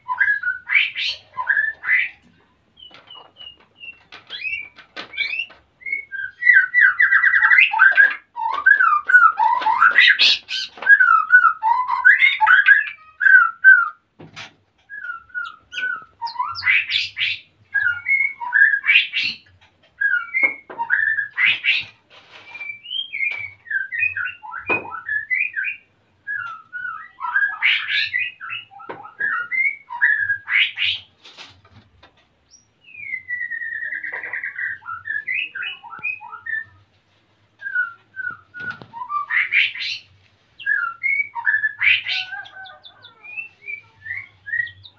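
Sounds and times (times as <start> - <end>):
songbird whistling and chirping: 0.0 - 14.0, 14.8 - 31.1, 32.5 - 36.8, 37.6 - 44.9.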